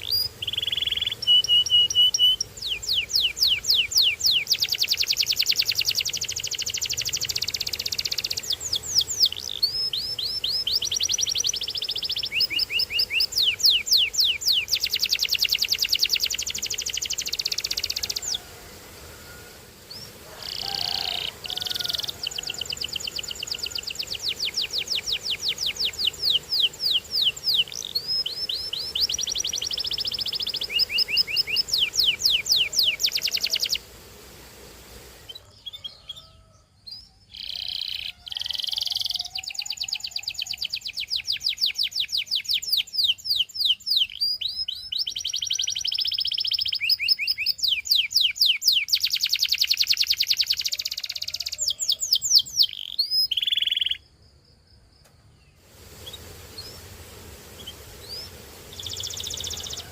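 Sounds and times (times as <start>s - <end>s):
canary singing trills: 0.0s - 18.5s, 19.2s - 33.9s, 35.2s - 54.2s, 55.4s - 59.9s.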